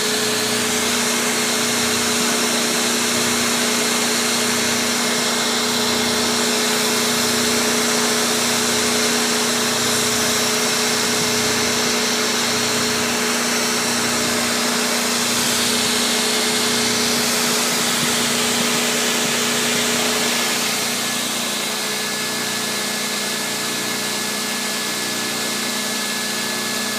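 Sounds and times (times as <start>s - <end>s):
router machine hum: 0.0s - 26.9s.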